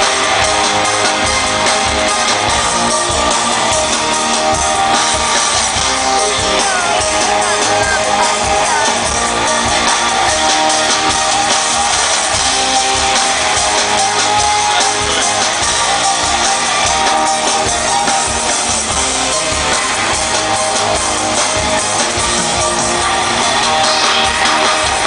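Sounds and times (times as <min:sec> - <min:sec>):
guitar music: 0:00.0 - 0:25.0.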